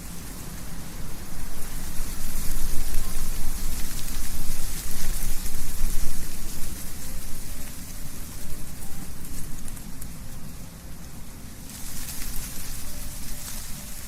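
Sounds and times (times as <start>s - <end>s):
wind rustling leaves in trees: 0.0s - 14.0s.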